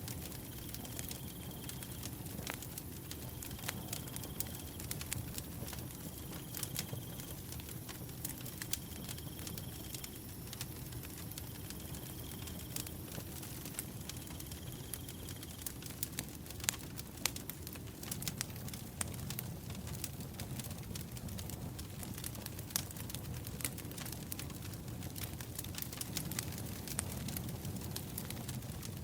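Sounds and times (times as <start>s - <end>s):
fire crackles and pops: 0.0s - 29.0s
wood fire rumble: 0.0s - 29.0s.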